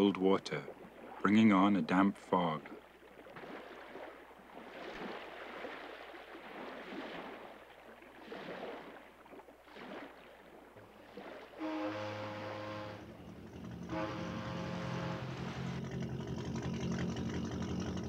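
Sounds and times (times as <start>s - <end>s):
gentle sea waves washing: 0.0s - 18.0s.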